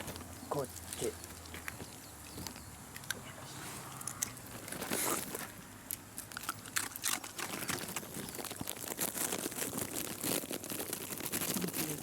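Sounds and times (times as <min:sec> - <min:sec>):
dog crunching a hard treat: 0:00.0 - 0:03.3, 0:03.9 - 0:12.0.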